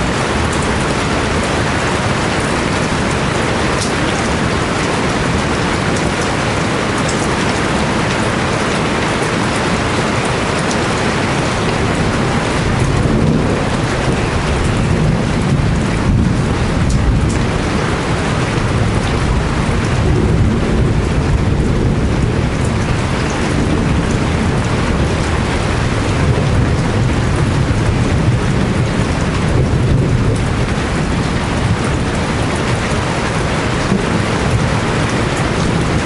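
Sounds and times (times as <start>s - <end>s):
deep continuous rumble: 0.0s - 36.0s
heavy rain: 0.0s - 36.0s.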